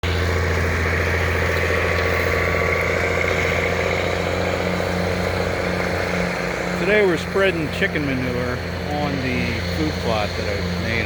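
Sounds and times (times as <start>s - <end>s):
engine running with whine: 0.0s - 11.0s.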